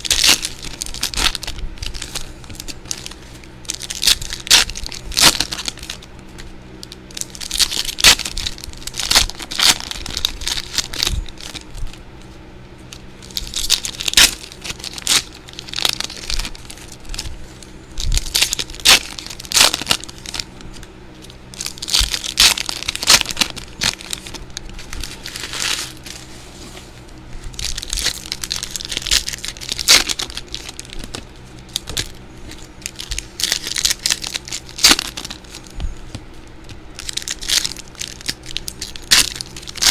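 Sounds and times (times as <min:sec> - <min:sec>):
plastic wrappers crinkling and tearing: 0:00.0 - 0:12.0, 0:12.8 - 0:39.9.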